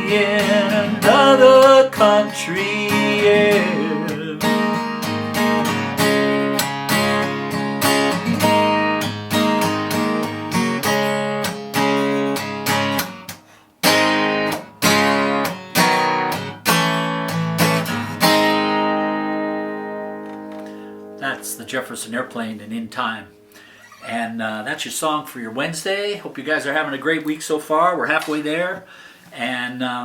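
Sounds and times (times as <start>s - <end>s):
acoustic guitar strumming chords: 0.0s - 24.4s.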